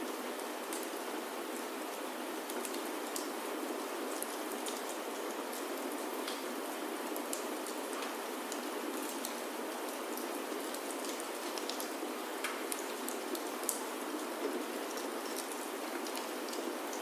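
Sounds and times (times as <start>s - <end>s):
rain falling on a roof: 0.0s - 17.0s.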